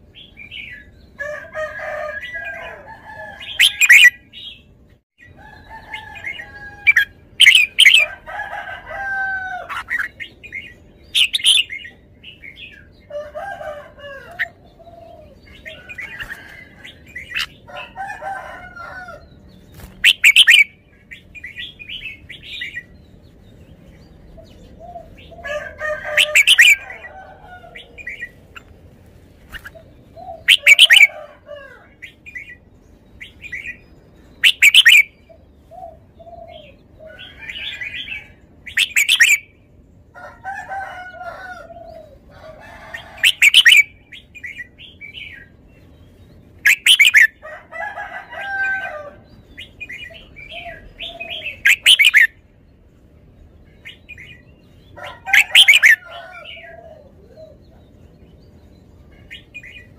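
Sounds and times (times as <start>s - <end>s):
soft bird chirps and warbling: 0.0s - 59.9s.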